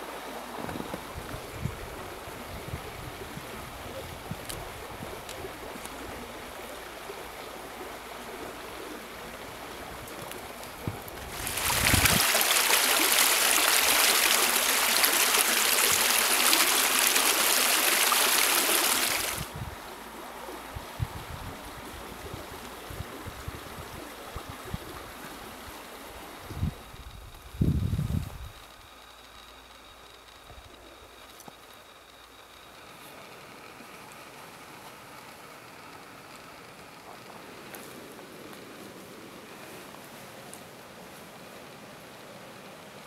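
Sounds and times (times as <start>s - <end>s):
creek water running: 0.0s - 43.0s.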